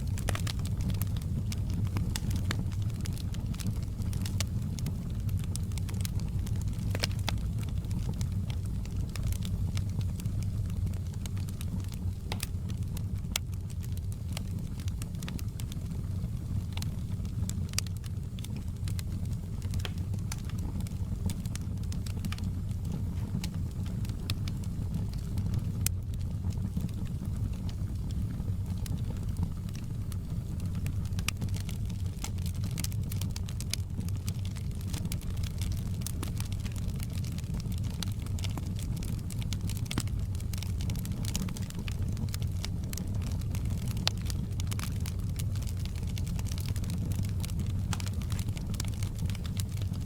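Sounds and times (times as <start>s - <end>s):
fire pops and snaps: 0.0s - 50.0s
fire rumbling: 0.0s - 50.0s.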